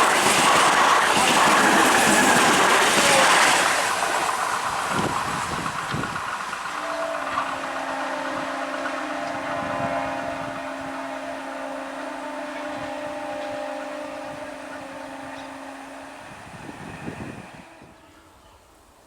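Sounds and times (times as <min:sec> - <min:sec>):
steady hum: 0:00.0 - 0:18.4
electric train passing: 0:00.0 - 0:19.0.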